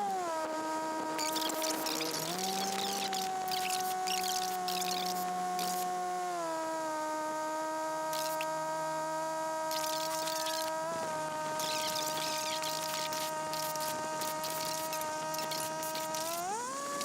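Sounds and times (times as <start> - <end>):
small plane engine whining: 0.0 - 17.0.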